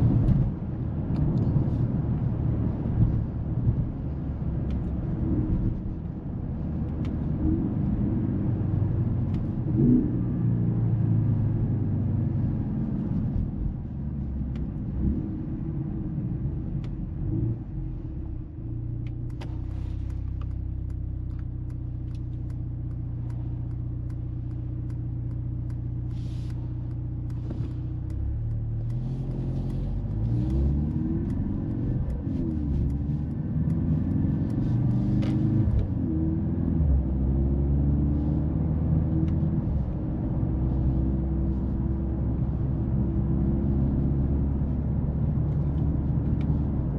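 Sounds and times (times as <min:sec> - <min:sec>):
car engine accelerating and shifting: 0:00.0 - 0:46.9.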